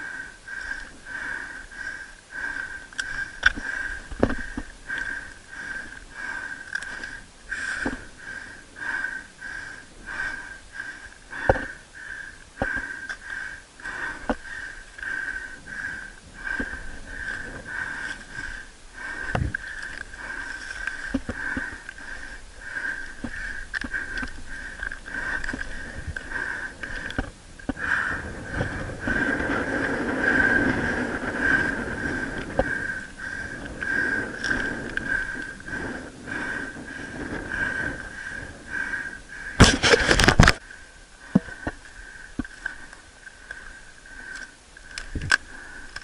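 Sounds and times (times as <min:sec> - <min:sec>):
hard rhythmic breathing: 0:00.0 - 0:46.0.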